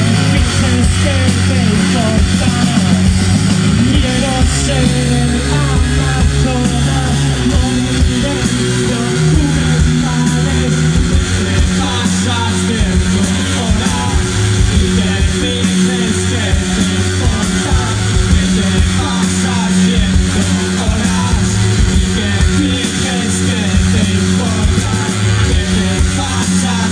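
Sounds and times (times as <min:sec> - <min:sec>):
bass guitar: 0:00.0 - 0:26.9
drums: 0:00.0 - 0:26.9
electric guitar: 0:00.0 - 0:26.9.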